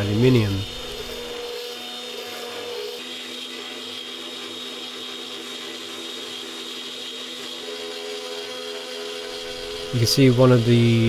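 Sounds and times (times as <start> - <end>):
cnc router spindle whine cutting metal: 0.0 - 11.0.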